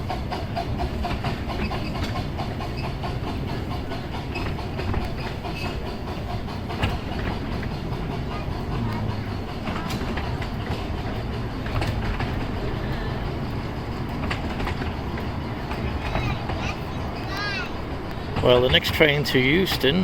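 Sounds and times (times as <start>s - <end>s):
miniature train rumbling: 0.0s - 20.0s
wheels clicking over rail joints: 0.0s - 20.0s.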